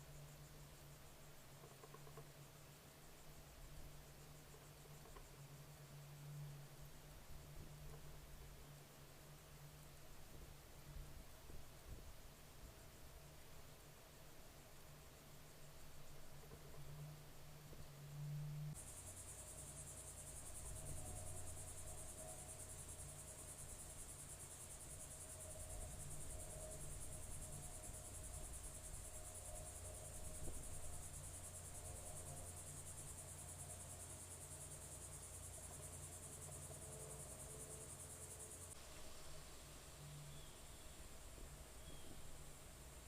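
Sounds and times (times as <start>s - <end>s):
crickets chirping chorus: 0.0s - 43.0s
faint low hum: 0.0s - 43.0s.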